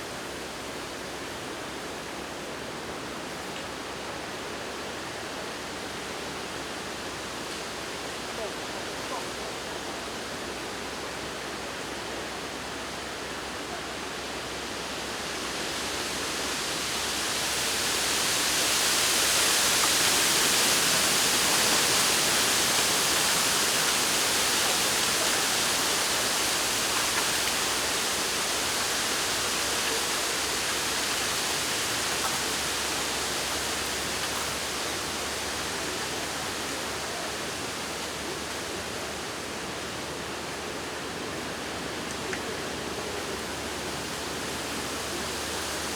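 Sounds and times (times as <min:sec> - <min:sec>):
wind rustling bamboo leaves: 0:00.0 - 0:45.9.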